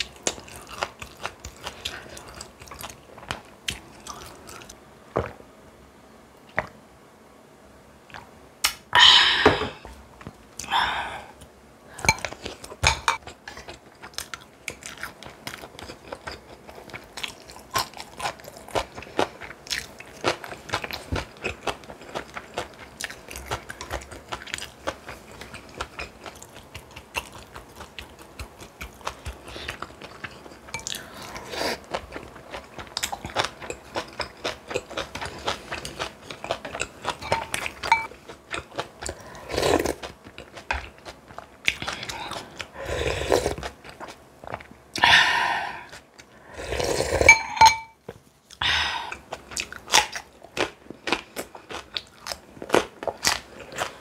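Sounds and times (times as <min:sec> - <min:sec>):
person chewing and crunching food: 0:00.0 - 0:05.4, 0:09.0 - 0:54.0.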